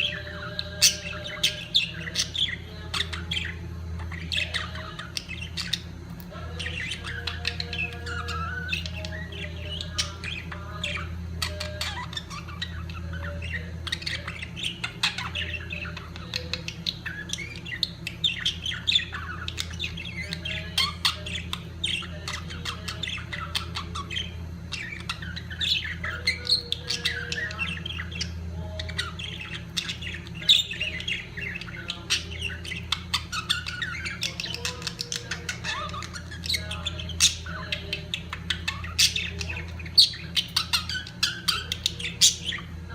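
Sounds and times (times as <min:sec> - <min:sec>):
budgerigars chattering: 0:00.0 - 0:42.9
steady low hum: 0:00.0 - 0:42.9.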